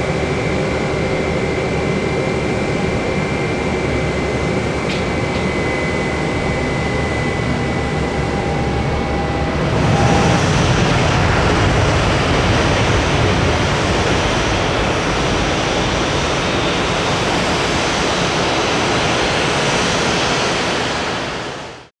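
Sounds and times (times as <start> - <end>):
jet engines roaring: 0.0 - 21.8.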